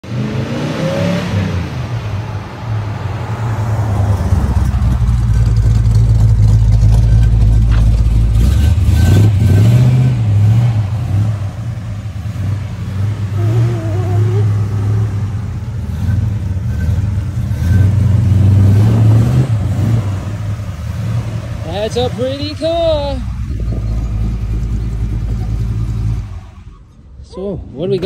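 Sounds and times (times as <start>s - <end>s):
car engine rumbling driving by: 0.0s - 28.0s.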